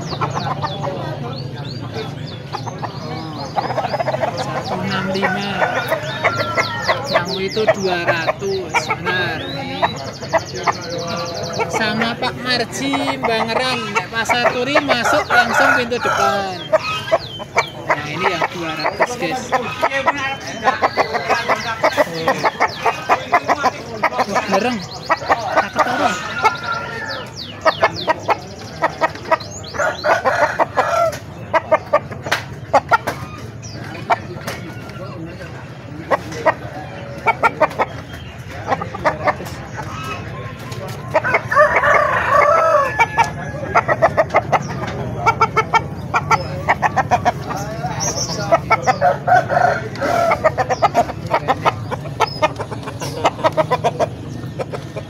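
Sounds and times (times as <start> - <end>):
roosters clucking and crowing: 0.0 - 55.0.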